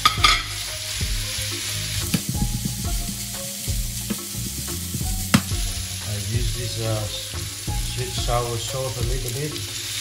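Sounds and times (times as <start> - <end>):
rice sizzling in a wok: 0.0 - 10.0.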